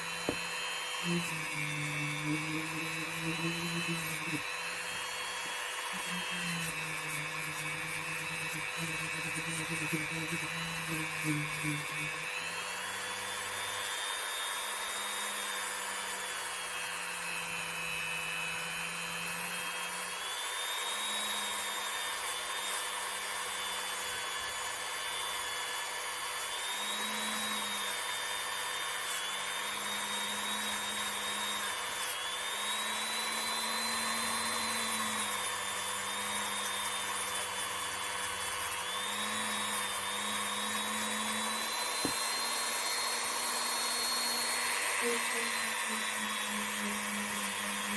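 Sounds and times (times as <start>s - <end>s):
rotary tool brush whining: 0.0s - 47.9s.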